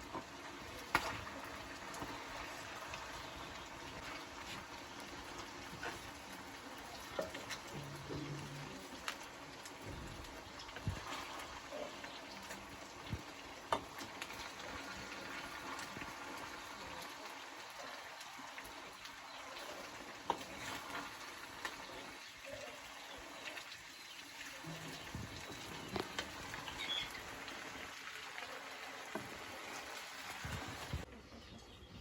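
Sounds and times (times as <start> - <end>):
curry simmering in a pot: 0.0 - 31.1.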